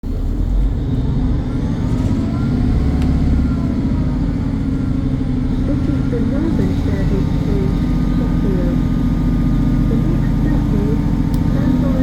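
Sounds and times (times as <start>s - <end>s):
train diesel engine rumbling: 0.0s - 12.0s.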